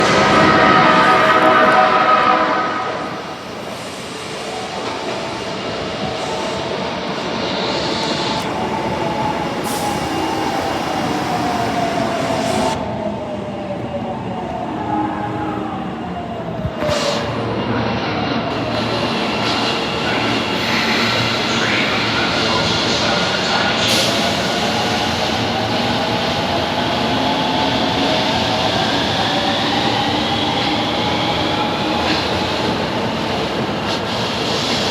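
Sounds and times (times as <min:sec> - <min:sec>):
subway train running: 0:00.0 - 0:34.9.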